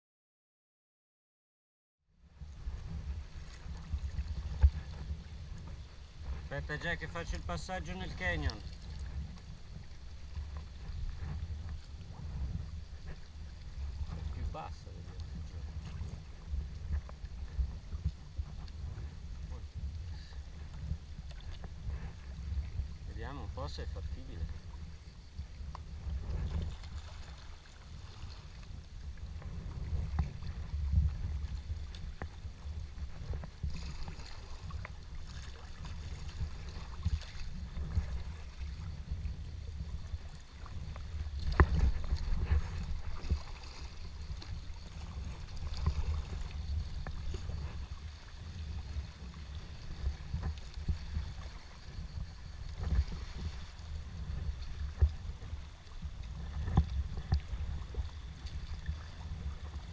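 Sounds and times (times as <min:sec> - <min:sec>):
water splashing around kayak: 0:02.2 - 0:59.9.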